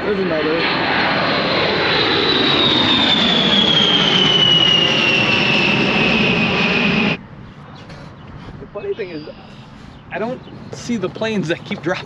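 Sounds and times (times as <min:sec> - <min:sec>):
high turbine whine: 0:00.0 - 0:12.0
jet aircraft roaring overhead: 0:00.0 - 0:12.0.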